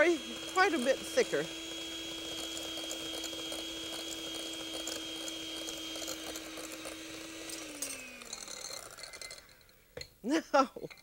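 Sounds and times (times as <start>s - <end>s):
electric hand mixer whining: 0.0s - 9.8s.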